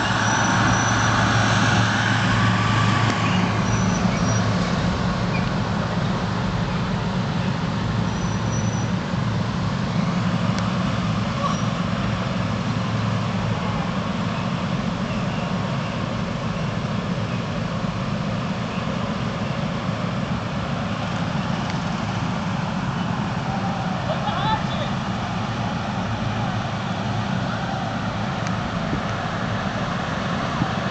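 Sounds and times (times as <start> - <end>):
lawn mower engines running: 0.0 - 30.9.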